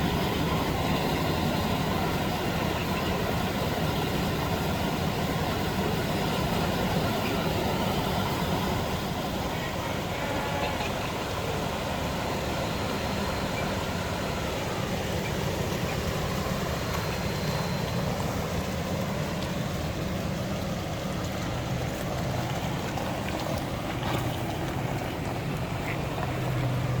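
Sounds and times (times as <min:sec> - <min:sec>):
low engine rumble: 0:00.0 - 0:27.0
road and wind noise: 0:00.0 - 0:27.0.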